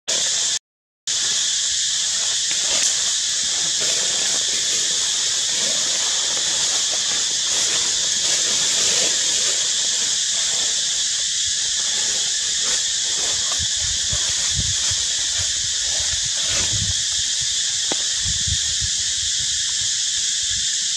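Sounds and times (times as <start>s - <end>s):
cicada chorus drone: 0.1s - 20.9s.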